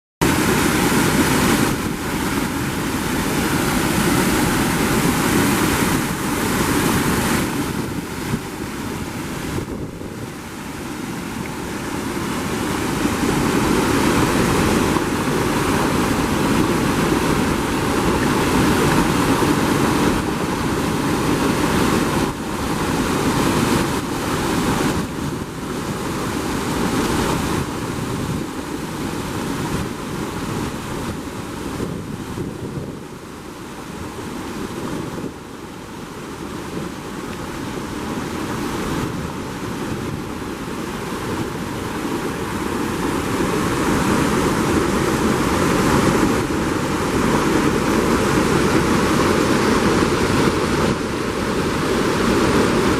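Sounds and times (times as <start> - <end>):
waterfall roaring: 0.2 - 52.9
wind buffeting microphone: 0.2 - 52.9.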